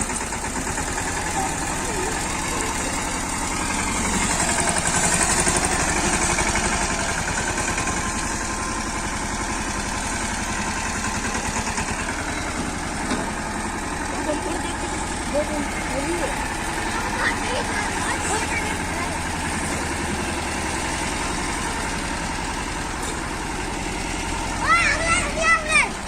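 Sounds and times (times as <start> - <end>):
tractor diesel engine chugging: 0.0 - 26.0.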